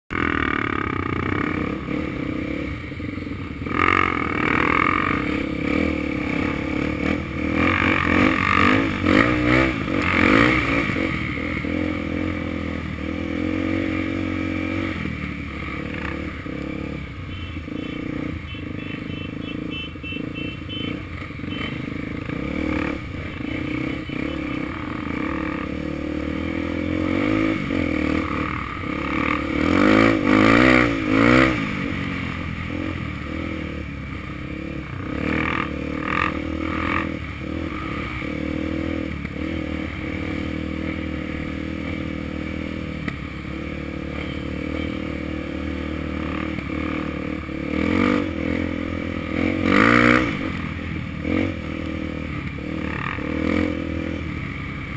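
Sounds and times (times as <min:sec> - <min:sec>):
motorbike engine revving: 0:00.1 - 0:54.9.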